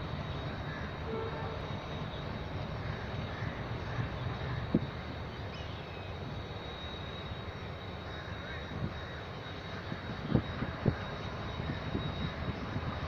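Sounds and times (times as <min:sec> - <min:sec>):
distant locomotive rumble: 0:00.0 - 0:13.0.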